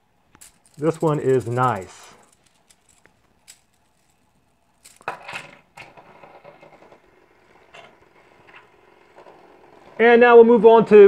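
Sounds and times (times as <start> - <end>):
fidget spinner clinking on tabletop: 0.3 - 10.0
fidget spinner whirring: 0.3 - 11.0.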